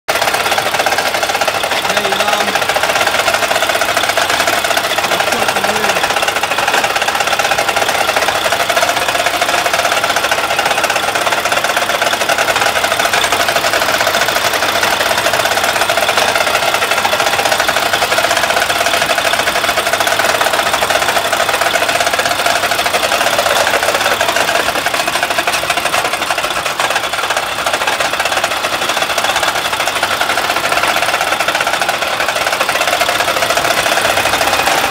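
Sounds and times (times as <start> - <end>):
diesel engine clattering: 0.1 - 34.9.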